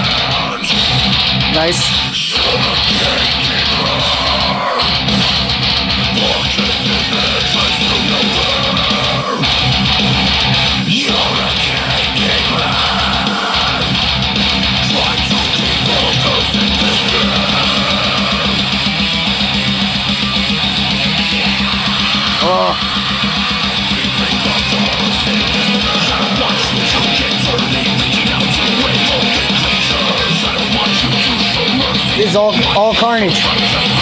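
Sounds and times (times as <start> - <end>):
heavy metal song: 0.0 - 34.0.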